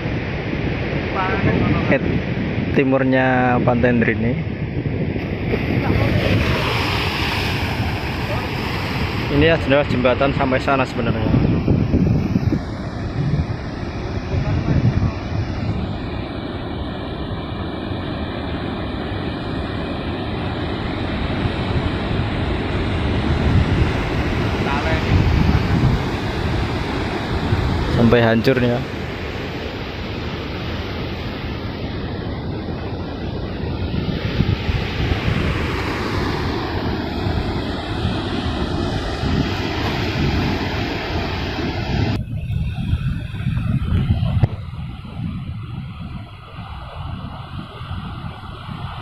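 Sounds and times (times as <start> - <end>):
heavy surf roaring: 0.0 - 49.0
wind buffeting microphone: 0.0 - 49.0.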